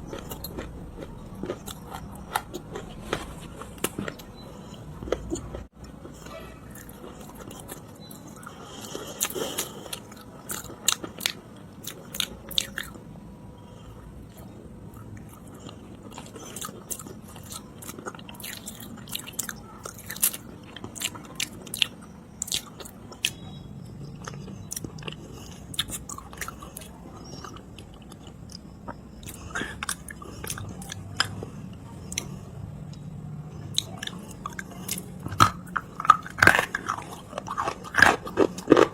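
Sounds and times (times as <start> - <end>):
biting and chewing clay: 0.0 - 13.0, 13.7 - 38.9.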